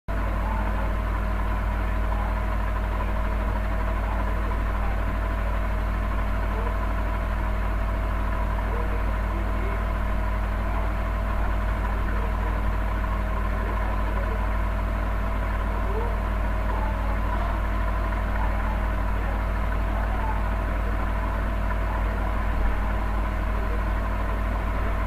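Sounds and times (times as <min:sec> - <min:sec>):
low mechanical hum: 0:00.1 - 0:25.0.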